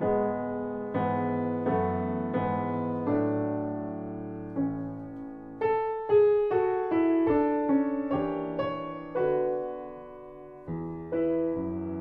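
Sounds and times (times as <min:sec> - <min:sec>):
slow gentle piano melody: 0:00.0 - 0:12.0.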